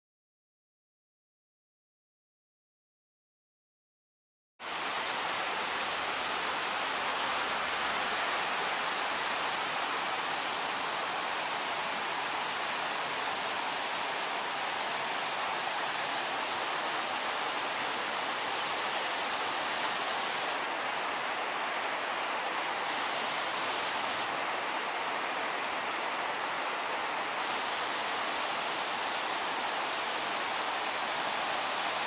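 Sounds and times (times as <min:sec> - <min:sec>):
waterfall rushing: 0:04.6 - 0:32.0.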